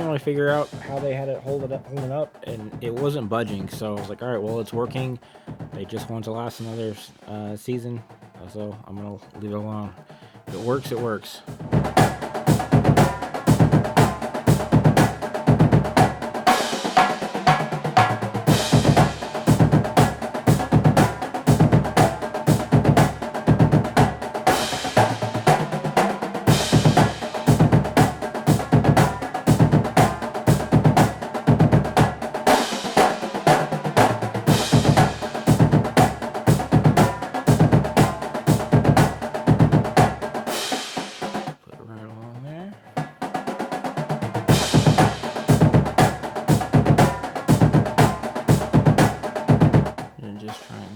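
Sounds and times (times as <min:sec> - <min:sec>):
drum-heavy music: 0:00.0 - 0:50.9.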